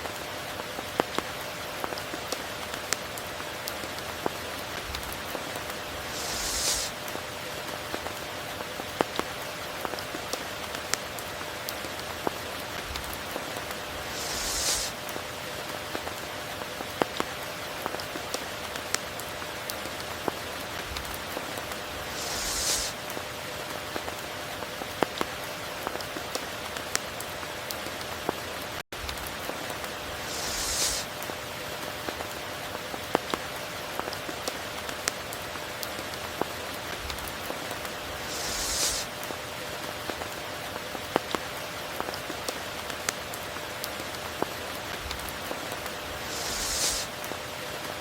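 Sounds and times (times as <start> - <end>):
close raindrops ticking: 0.0 - 30.3, 31.0 - 48.0
steady rain falling: 0.0 - 48.0.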